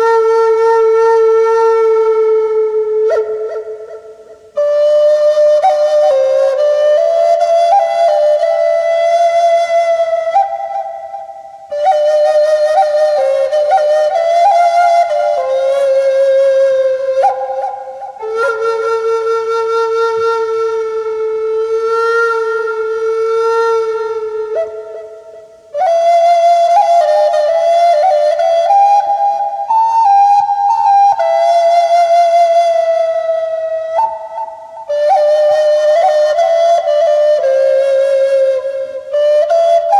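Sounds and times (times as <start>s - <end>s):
wooden flute playing slow melody: 0.0s - 39.9s.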